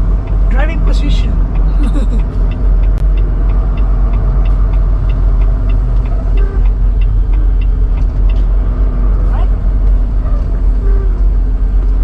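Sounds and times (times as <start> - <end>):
regular ticking: 0.0 - 12.0
truck engine rumbling: 0.0 - 12.0.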